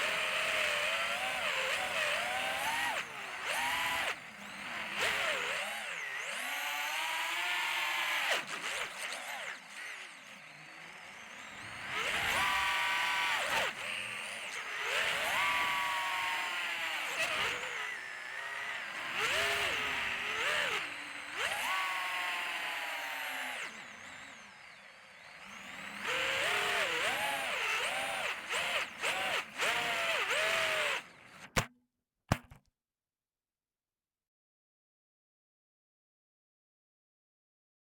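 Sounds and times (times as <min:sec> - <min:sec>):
drone motors whining: 0:00.0 - 0:31.6.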